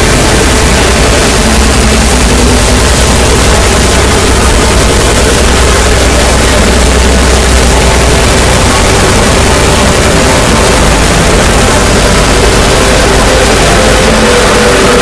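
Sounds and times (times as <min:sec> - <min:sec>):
distorted hiss: 0:00.0 - 0:15.0
low drone: 0:00.0 - 0:15.0.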